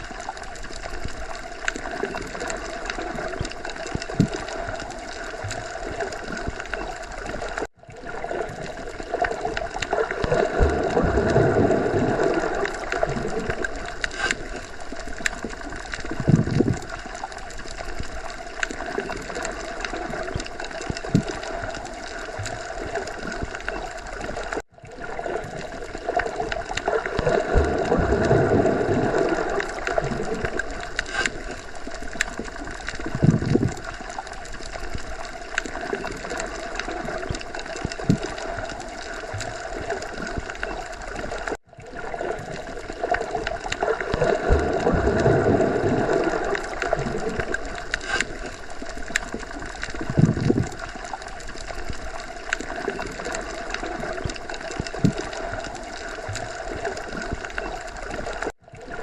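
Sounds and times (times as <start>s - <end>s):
muffled underwater rush of water: 0.0s - 59.0s.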